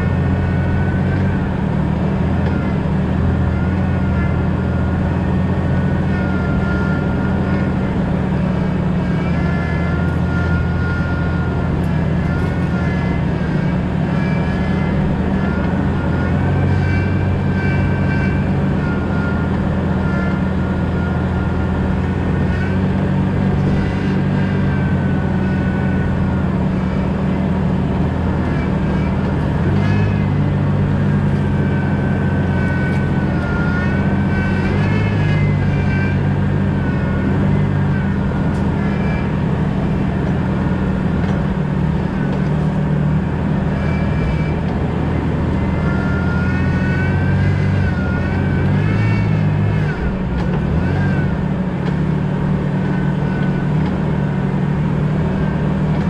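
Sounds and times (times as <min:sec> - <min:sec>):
car engine and road drone: 0:00.0 - 0:56.0
high wavering whine: 0:00.0 - 0:56.0.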